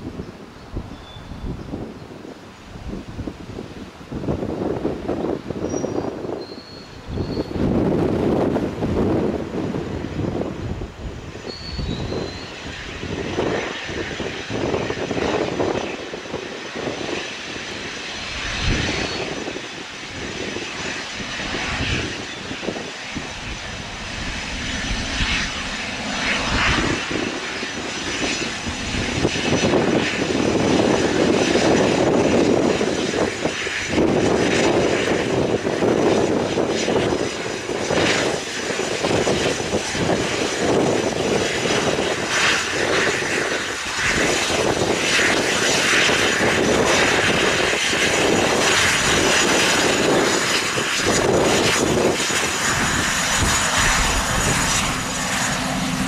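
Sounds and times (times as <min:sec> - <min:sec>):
jet engine whine and rush: 0:00.0 - 0:56.0.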